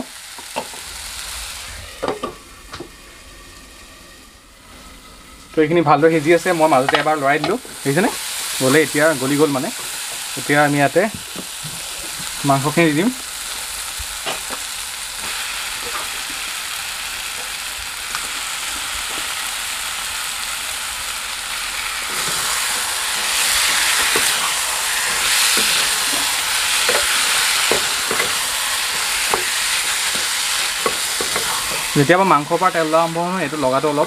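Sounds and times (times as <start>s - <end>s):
meat and masala sizzling: 0.0s - 34.0s.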